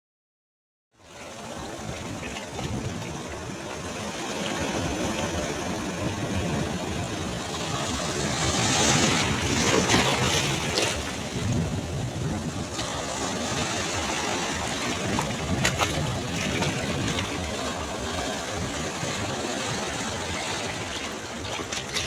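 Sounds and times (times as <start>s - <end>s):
sea waves washing on shore: 1.1s - 22.0s.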